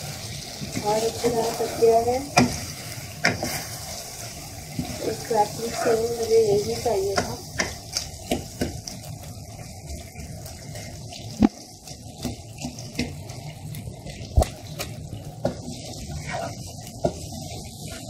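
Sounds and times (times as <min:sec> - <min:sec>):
stew bubbling in a pot: 0:00.0 - 0:18.0.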